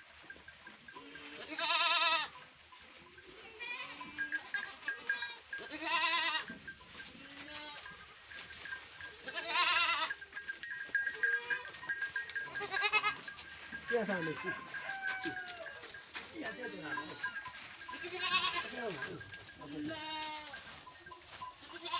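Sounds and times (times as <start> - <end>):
goats bleating: 1.0 - 2.3, 3.4 - 6.6, 7.2 - 8.3, 9.2 - 10.2, 10.9 - 21.9.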